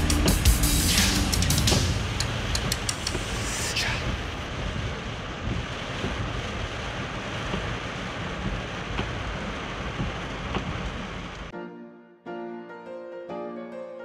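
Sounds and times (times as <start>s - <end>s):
heavy rain on car roof: 0.0s - 11.5s
tyres on wet road: 0.0s - 11.5s.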